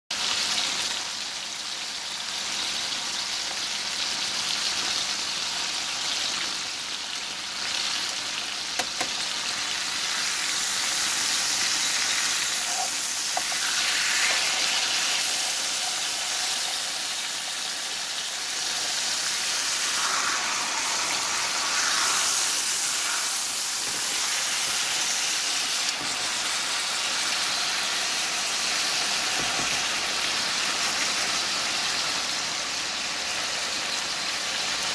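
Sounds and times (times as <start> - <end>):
steaks sizzling in hot oil: 0.1 - 34.9.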